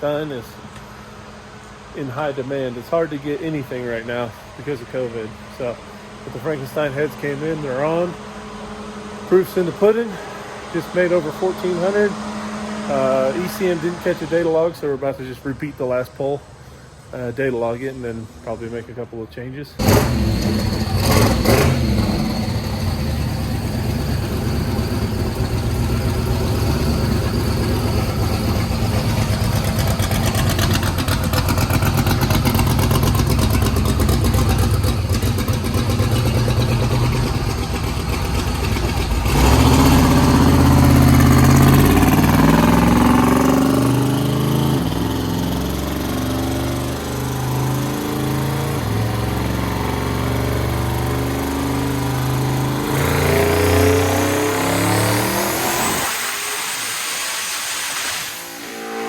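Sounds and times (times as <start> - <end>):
car engine on dyno: 0.0 - 19.1, 19.7 - 59.0.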